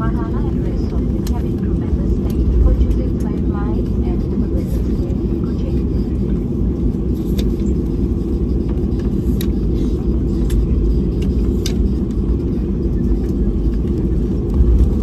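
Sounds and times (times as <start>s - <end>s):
aircraft engines and wheels rumbling: 0.0s - 15.0s.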